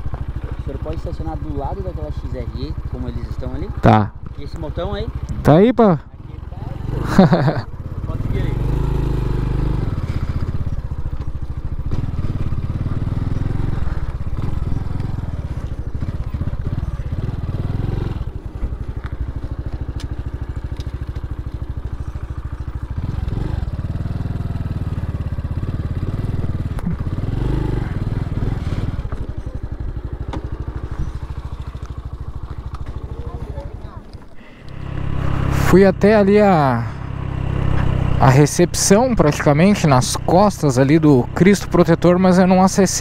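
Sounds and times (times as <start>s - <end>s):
small motorcycle engine running: 0.0s - 43.0s.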